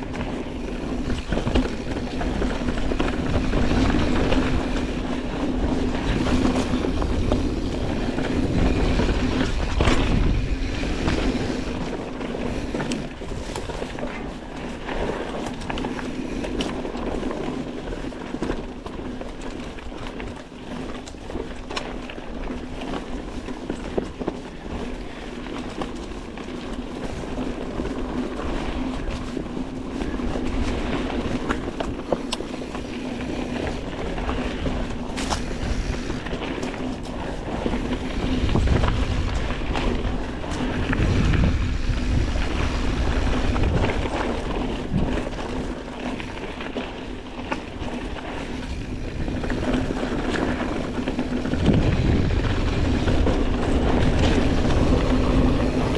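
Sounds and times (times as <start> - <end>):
bike clicks and knocks: 0.0 - 55.9
bike tyres rolling over dirt: 0.0 - 55.9.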